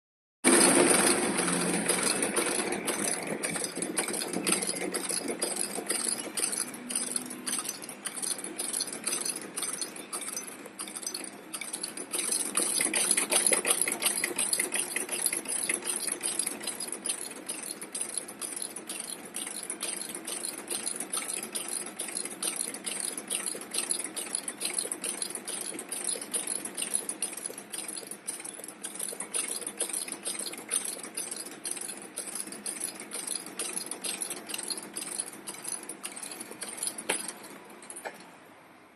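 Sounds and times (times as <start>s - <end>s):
sewing machine clattering: 0.4s - 38.5s.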